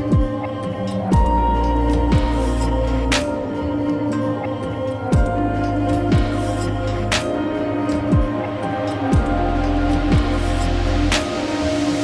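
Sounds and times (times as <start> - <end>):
ambient music with held tones: 0.0 - 12.0.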